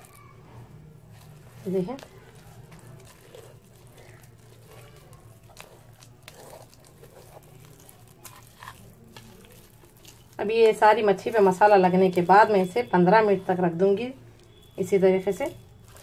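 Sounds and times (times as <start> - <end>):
fingers squishing spice paste: 0.0 - 16.0.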